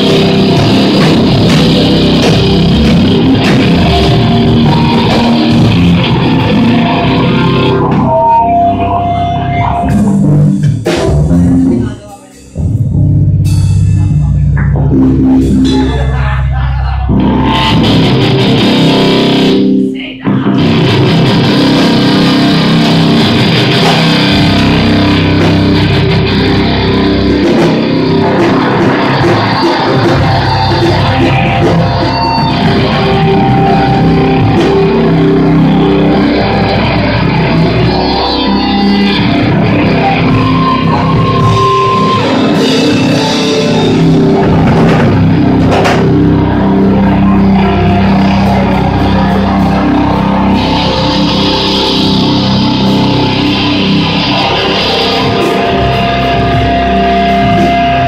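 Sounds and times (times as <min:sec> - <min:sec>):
heavy rock band playing: 0:00.0 - 0:58.0.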